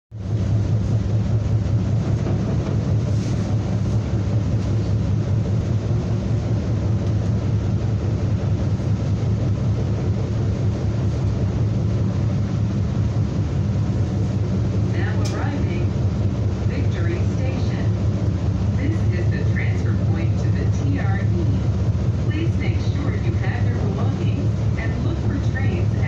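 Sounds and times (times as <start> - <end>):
freight train rolling by: 0.1 - 26.0.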